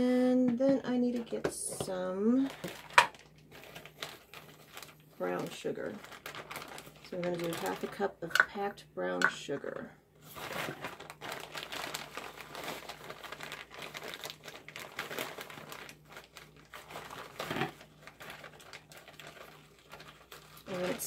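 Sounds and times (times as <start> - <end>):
plastic bag crinkling: 0.9 - 8.2, 10.2 - 21.0.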